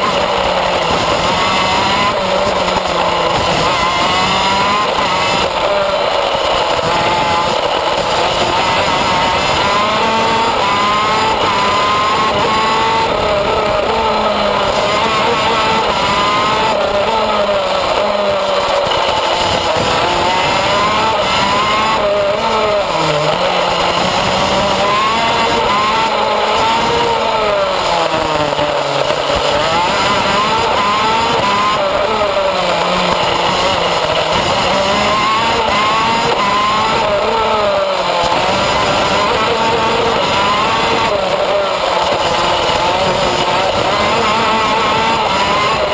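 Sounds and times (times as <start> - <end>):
two-stroke racing engine: 0.0 - 45.9.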